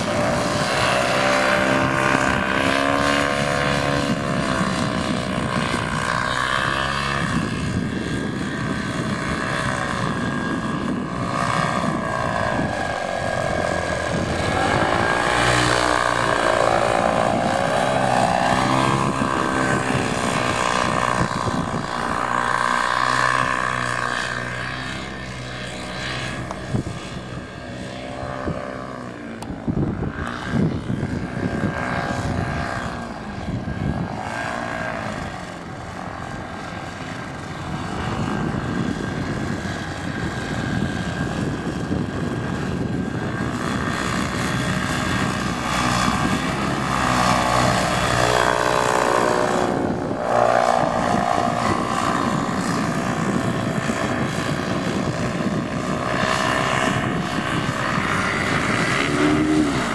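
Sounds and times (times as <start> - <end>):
paramotor engine droning: 0.0 - 59.9.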